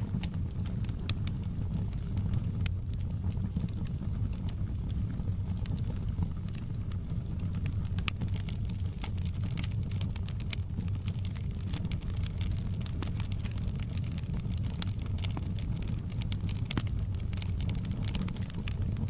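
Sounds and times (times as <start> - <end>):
fire crackling and popping: 0.0 - 19.0
low rumble of fire: 0.0 - 19.0.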